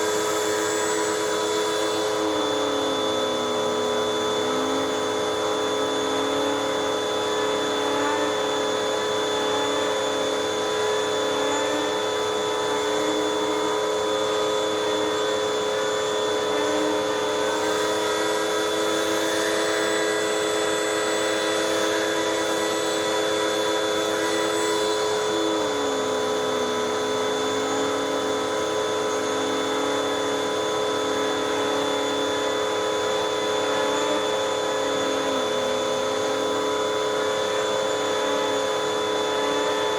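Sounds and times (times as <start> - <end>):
vacuum cleaner running: 0.0 - 39.9
vacuum tool on fabric cushions: 0.0 - 39.9.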